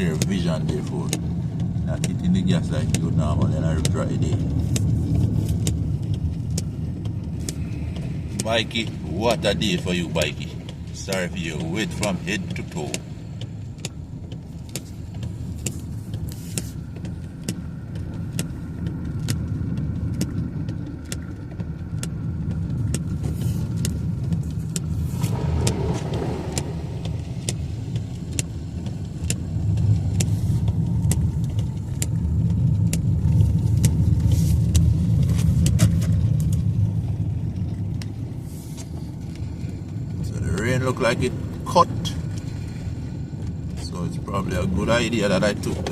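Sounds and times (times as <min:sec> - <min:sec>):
rain tapping on car: 0:00.0 - 0:45.9
road and engine rumble: 0:00.0 - 0:45.9.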